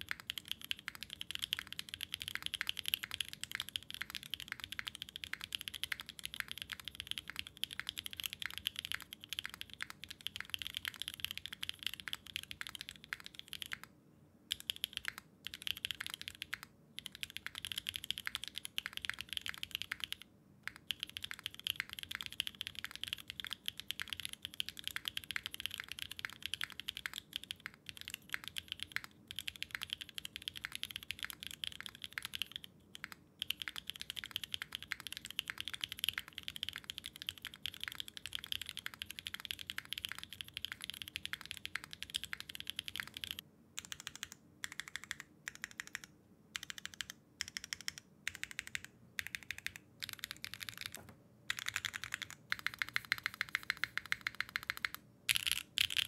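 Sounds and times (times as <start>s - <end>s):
mechanical keyboard typing: 0.0s - 13.9s, 14.5s - 56.0s.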